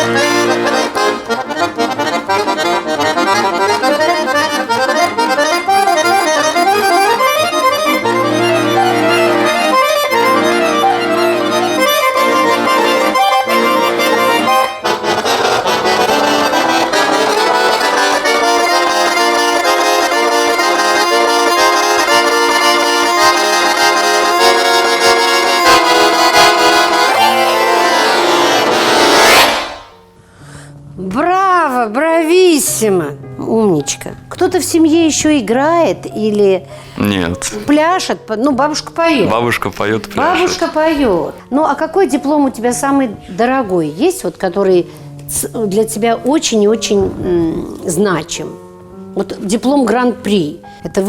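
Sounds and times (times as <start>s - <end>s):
solo accordion folk piece: 0.0s - 30.2s, 36.2s - 51.0s.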